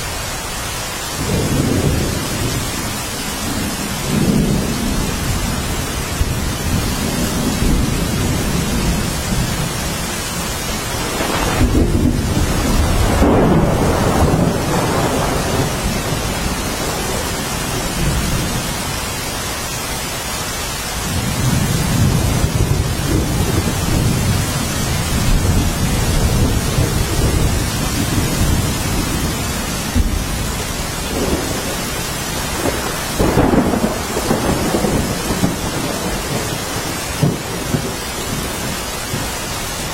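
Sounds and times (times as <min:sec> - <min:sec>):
heavy rainfall: 0:00.0 - 0:39.9
low rolling thunder: 0:01.2 - 0:19.0, 0:21.0 - 0:39.9.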